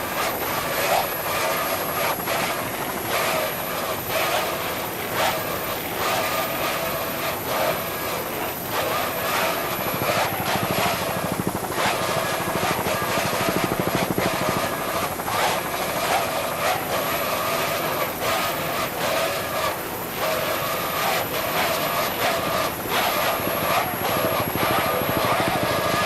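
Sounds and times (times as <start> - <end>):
fast pulsing: 0.0 - 26.0.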